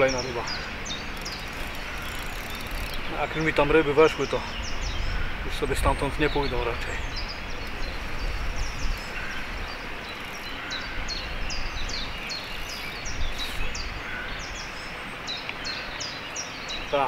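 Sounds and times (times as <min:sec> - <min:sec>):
songbird calling: 0:00.0 - 0:17.0.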